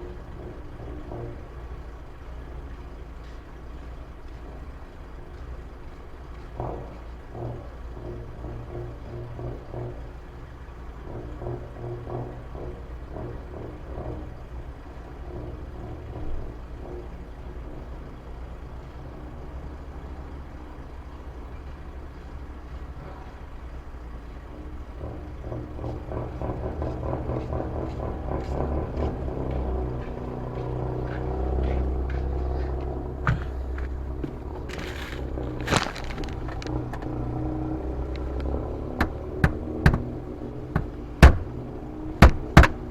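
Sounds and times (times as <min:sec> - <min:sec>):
vehicle engine humming: 0:00.0 - 0:42.9.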